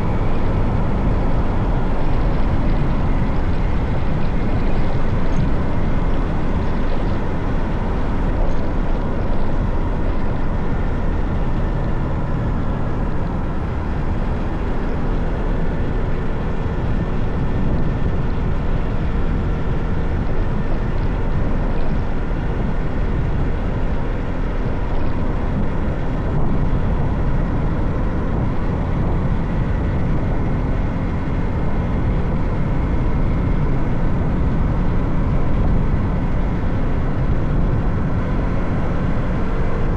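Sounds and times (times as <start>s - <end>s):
motorcycle engine rumble: 0.0s - 39.9s
wind noise: 0.0s - 39.9s.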